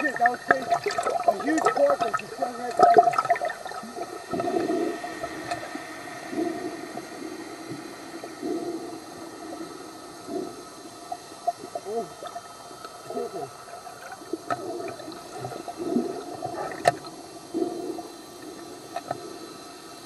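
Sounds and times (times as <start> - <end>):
faint steady hum: 0.0 - 20.0
water sloshing and gurgling underwater: 0.0 - 20.0.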